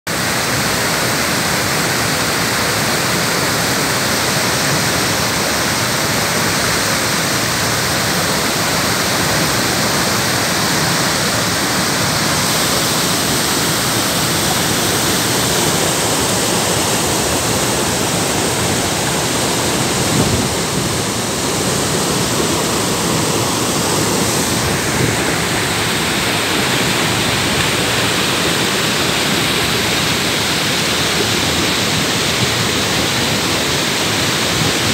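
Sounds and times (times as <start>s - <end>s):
waterfall rushing and splashing: 0.1s - 34.9s.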